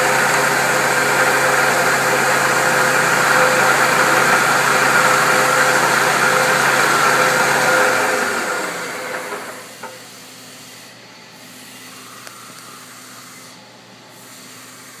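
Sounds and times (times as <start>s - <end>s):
milling machine humming: 0.0s - 14.9s.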